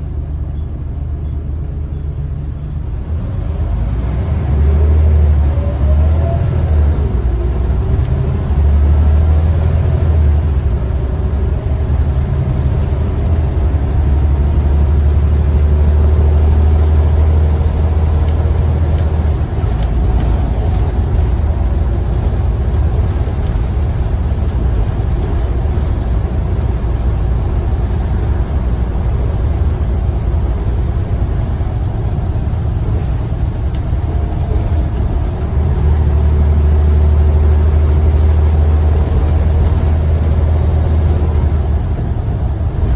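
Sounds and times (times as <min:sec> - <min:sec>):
bus engine drone: 0:00.0 - 0:42.9.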